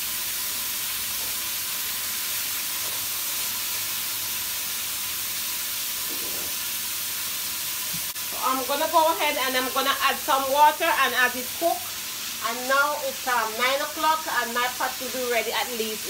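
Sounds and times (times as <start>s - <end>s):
meat sizzling in frying pan: 0.0s - 16.0s.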